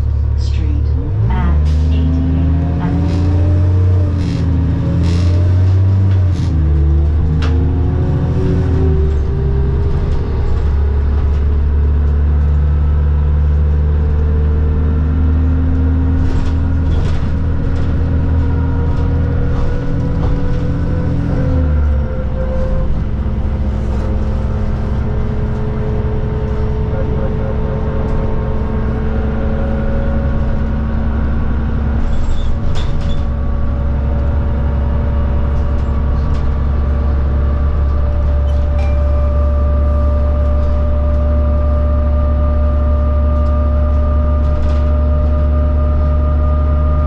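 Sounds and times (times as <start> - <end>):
bus engine under load: 0.0 - 47.0.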